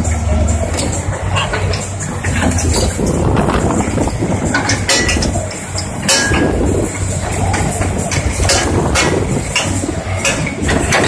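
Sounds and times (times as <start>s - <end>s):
diesel machinery engine drone: 0.0s - 11.0s
metallic clanks and knocks: 0.0s - 11.0s.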